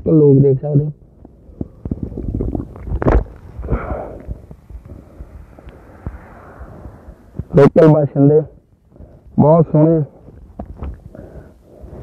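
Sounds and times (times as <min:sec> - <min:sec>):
microphone rumbling and crackling: 0:00.0 - 0:12.0.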